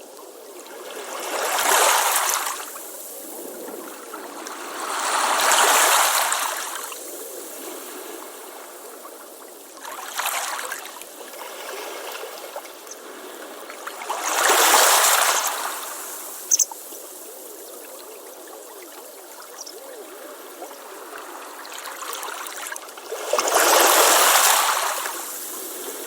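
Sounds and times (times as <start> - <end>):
ocean waves washing onto beach: 0.8 - 17.6, 20.0 - 26.0.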